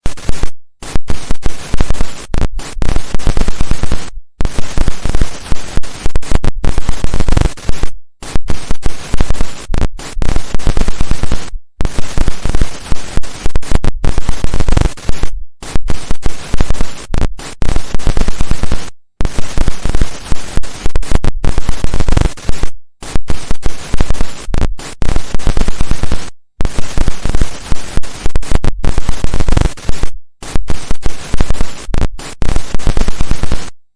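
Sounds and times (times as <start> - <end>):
television static hiss crackling: 0.0 - 33.7.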